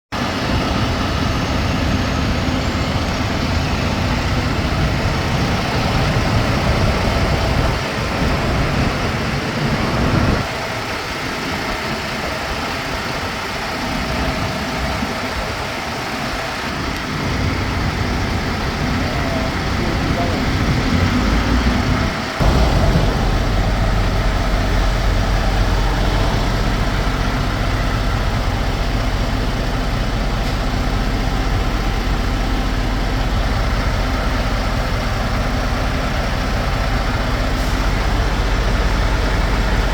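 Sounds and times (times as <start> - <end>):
truck engine rumbling: 0.1 - 39.9.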